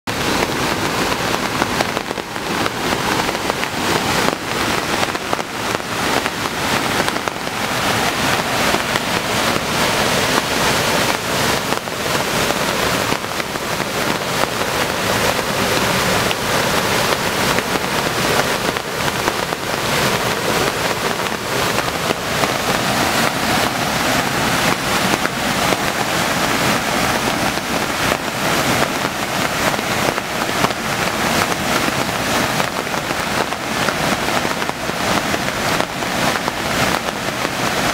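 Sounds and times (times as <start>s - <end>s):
rain falling: 0.1s - 37.9s
water rushing over weir: 0.1s - 37.9s.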